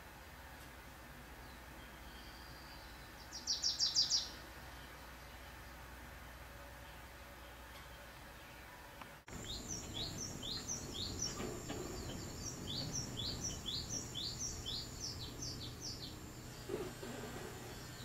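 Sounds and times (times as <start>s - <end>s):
bird chirping: 1.4s - 5.8s, 6.8s - 18.0s.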